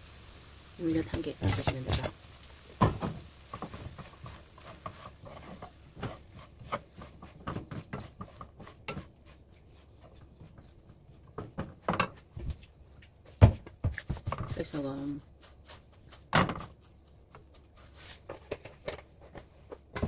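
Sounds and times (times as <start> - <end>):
wooden spatula scraping a pan: 1.0 - 2.2, 2.8 - 12.6, 13.9 - 20.0.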